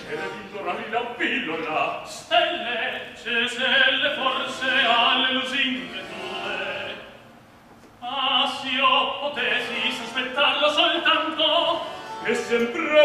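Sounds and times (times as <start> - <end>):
operatic singing: 0.0 - 7.2, 8.0 - 13.0.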